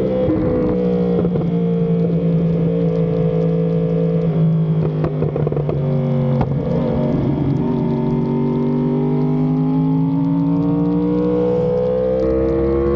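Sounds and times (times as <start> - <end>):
motorcycle engine at steady throttle: 0.0 - 12.9.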